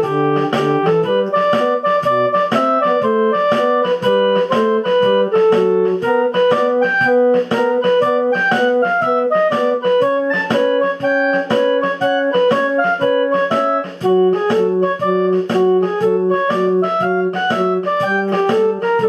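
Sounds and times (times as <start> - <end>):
brisk electronic keyboard tune: 0.0 - 19.0.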